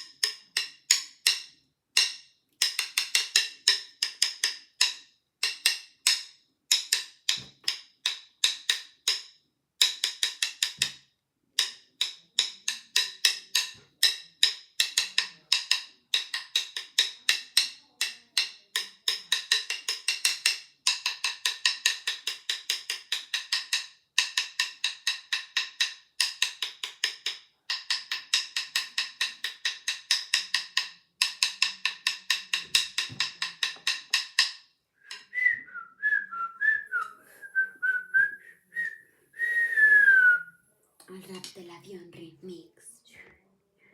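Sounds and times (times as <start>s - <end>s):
sharp wood-block-like clicks: 0.0s - 35.4s.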